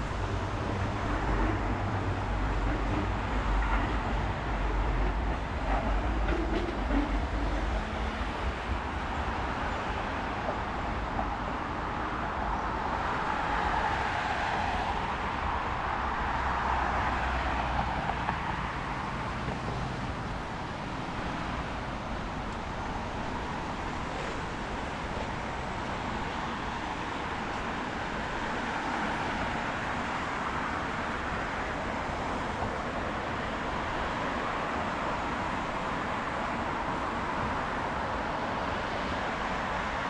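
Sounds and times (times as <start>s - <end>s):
traffic on wet road: 0.0s - 40.0s.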